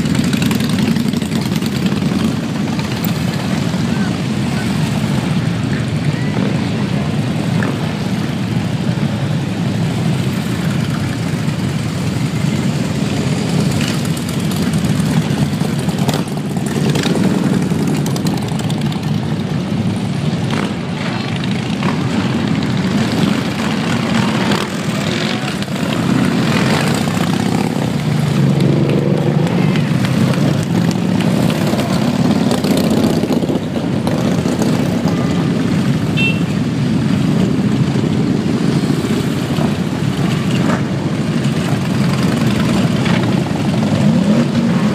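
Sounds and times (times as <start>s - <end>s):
motorcycle engines rumbling: 0.0s - 44.9s.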